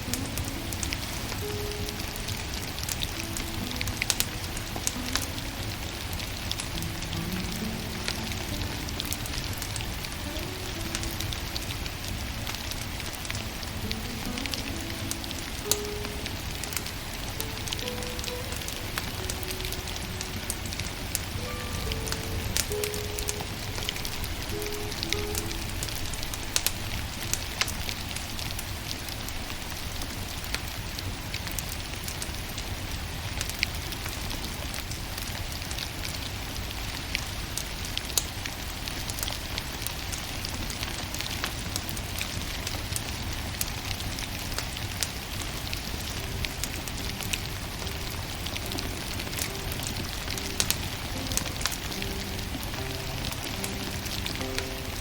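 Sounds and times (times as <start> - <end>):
firewood burning crackling: 0.0 - 55.0.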